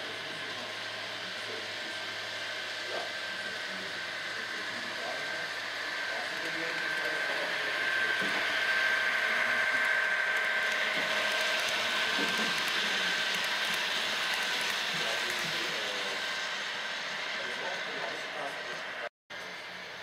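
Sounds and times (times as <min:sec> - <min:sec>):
model train wheels rumbling on rails: 0:00.0 - 0:20.0
electric motor whine: 0:00.1 - 0:19.0.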